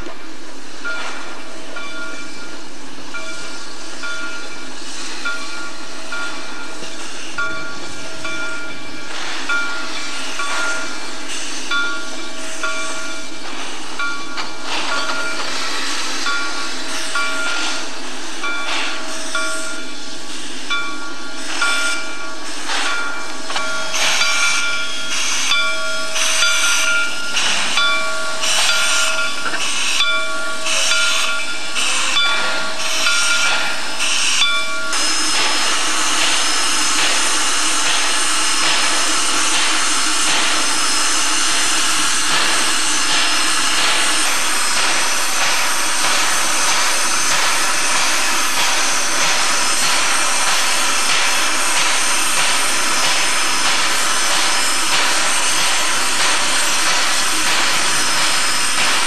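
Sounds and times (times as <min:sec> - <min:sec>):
loud steam hiss: 0:00.0 - 0:59.0
steam locomotive exhaust beats: 0:00.0 - 0:59.0
locomotive bell ringing: 0:00.8 - 0:59.0.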